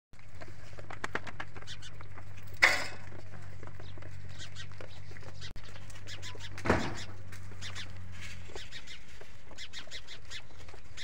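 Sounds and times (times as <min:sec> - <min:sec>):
goats eating grain: 0:00.2 - 0:11.0.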